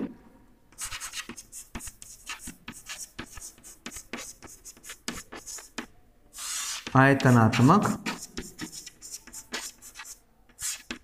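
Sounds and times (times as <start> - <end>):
chalk scratching on blackboard: 0.8 - 11.0.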